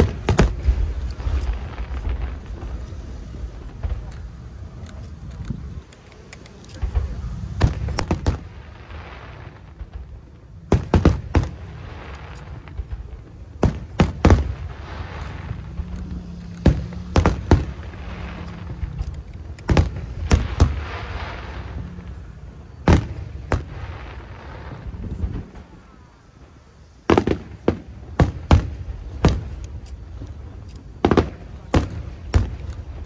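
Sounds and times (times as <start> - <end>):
fireworks booming: 0.0 - 33.0
fireworks crackling hiss: 0.0 - 33.0.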